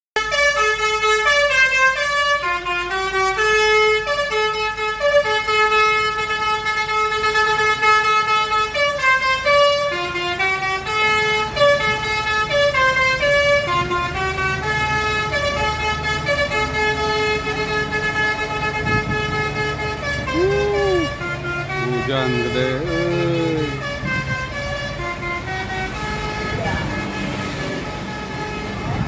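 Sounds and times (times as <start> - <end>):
bus horn playing a tune: 0.2 - 29.0.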